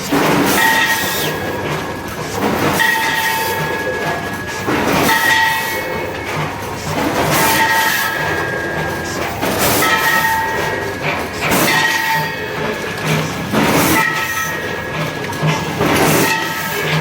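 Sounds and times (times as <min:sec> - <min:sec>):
machine whining tone: 0:00.0 - 0:17.0
mechanical clatter: 0:00.0 - 0:17.0.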